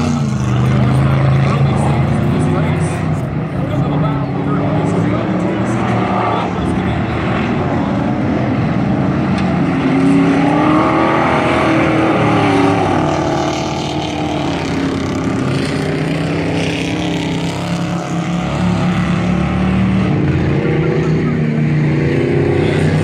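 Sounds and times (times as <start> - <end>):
race truck engines passing by: 0.0 - 23.0.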